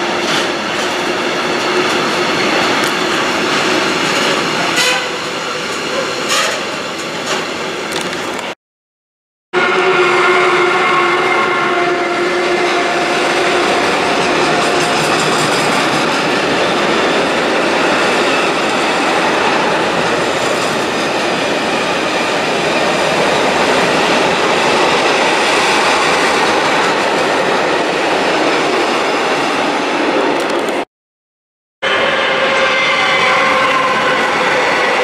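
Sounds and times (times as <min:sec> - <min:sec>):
train wheels on rails: 0:00.0 - 0:08.6, 0:10.0 - 0:30.9, 0:31.8 - 0:35.0.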